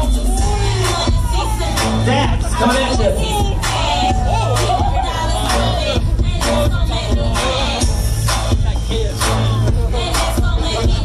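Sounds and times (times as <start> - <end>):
hip hop music over speakers: 0.0 - 11.0.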